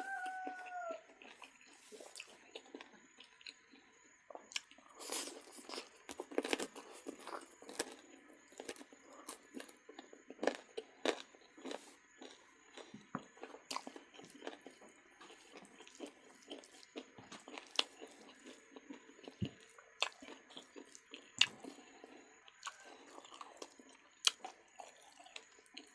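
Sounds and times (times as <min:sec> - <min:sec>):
close-miked chewing and crunching: 0:00.0 - 0:25.9.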